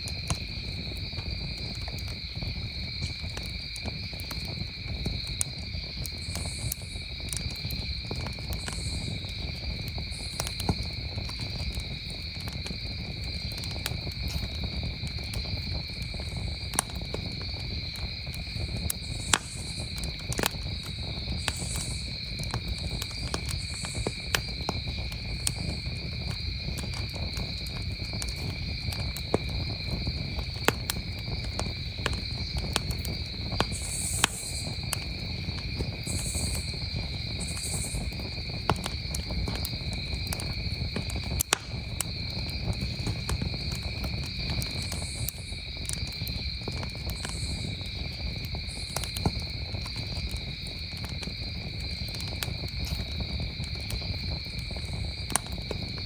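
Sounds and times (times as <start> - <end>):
campfire crackling and popping: 0.0 - 56.0
crickets trilling: 0.0 - 56.0.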